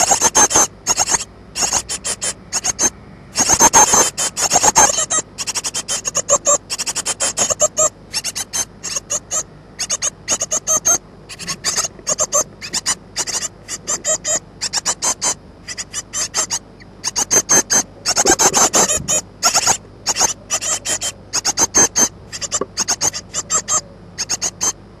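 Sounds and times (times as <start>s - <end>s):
nestlings cheeping: 0.0s - 24.9s.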